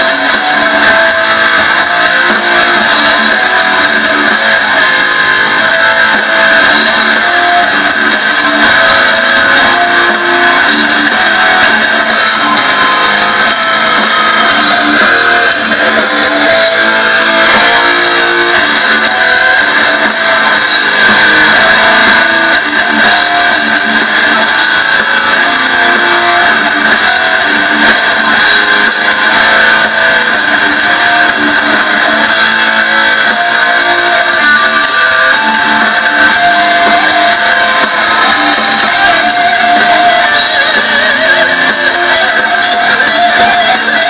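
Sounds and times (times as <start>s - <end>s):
drums and cymbals: 0.0s - 44.0s
electric guitars riffing: 0.0s - 44.0s.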